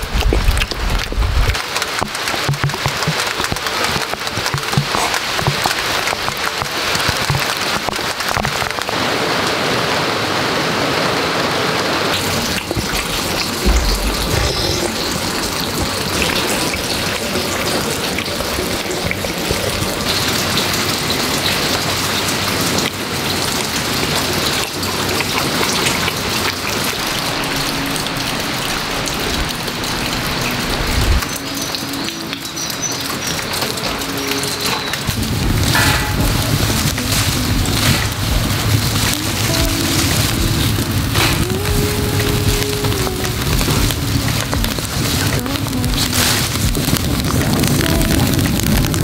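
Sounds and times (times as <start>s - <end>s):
heavy rain hiss: 0.0s - 49.0s.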